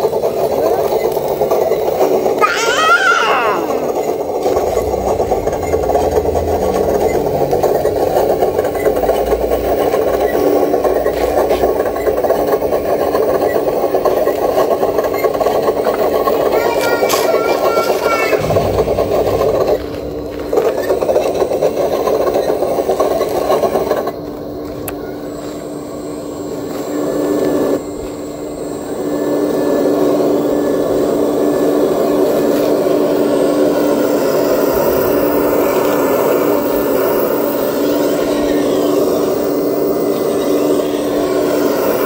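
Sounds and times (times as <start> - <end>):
motor and hydraulic pump hum: 0.0 - 42.0.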